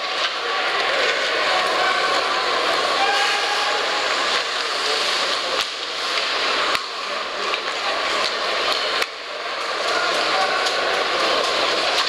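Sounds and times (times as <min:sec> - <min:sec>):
crowd din: 0:00.0 - 0:12.0
hiss of play on ice: 0:00.0 - 0:12.0.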